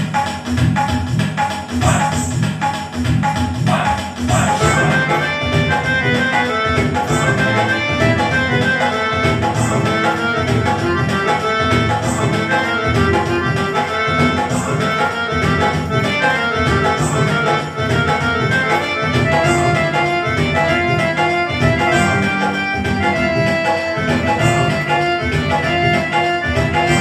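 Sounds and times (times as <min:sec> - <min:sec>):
electronic keyboard dance rhythm: 0:00.0 - 0:27.0.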